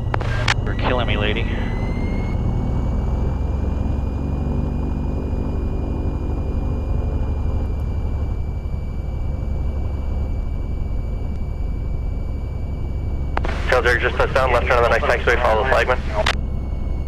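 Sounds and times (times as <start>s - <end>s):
aircraft engine and propeller: 0.0s - 17.0s
high whine: 0.0s - 17.0s.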